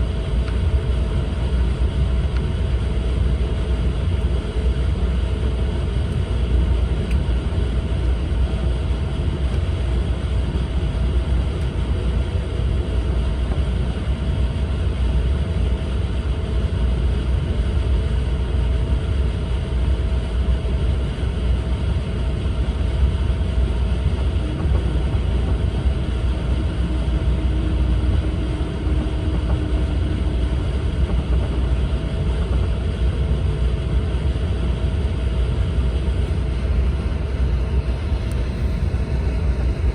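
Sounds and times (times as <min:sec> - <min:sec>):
faint constant hum: 0:00.0 - 0:39.9
train cabin low rumble: 0:00.0 - 0:39.9.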